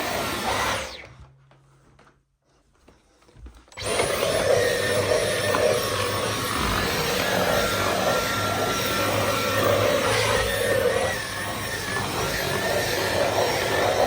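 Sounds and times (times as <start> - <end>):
cordless vacuum running: 0.0 - 1.1, 3.7 - 14.0.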